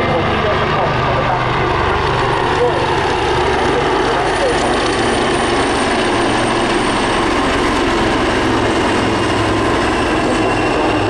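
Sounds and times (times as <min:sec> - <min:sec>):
helicopters and biplane droning past: 0:00.0 - 0:11.0.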